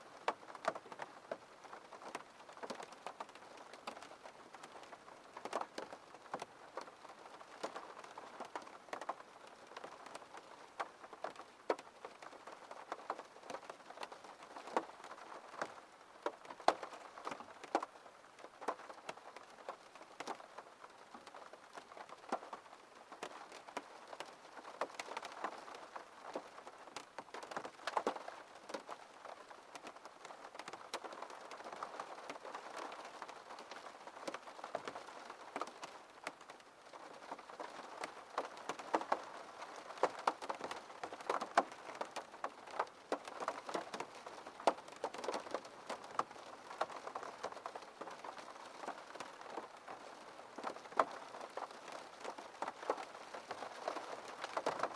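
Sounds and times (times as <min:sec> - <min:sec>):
rain pattering on a window: 0:00.0 - 0:54.9
raindrops ticking on glass: 0:00.2 - 0:54.9.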